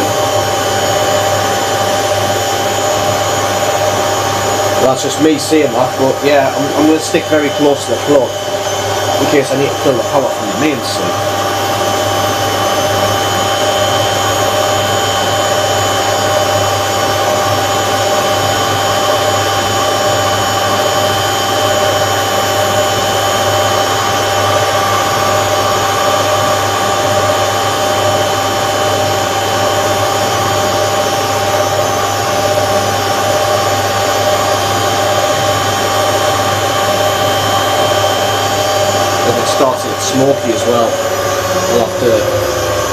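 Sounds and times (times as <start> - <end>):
washing machine motor whine: 0.0 - 42.9.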